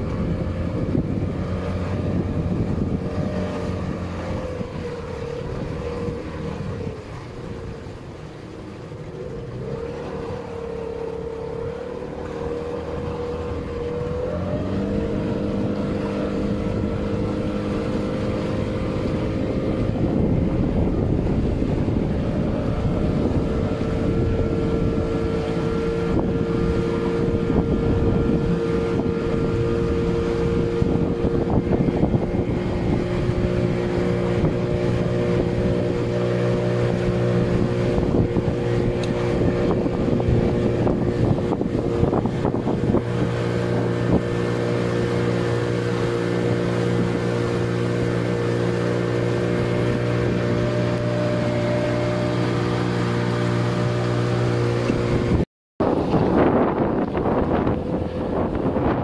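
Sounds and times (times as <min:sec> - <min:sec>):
motorboat engine running: 0:00.0 - 0:59.0
wind on microphone: 0:00.0 - 0:59.0.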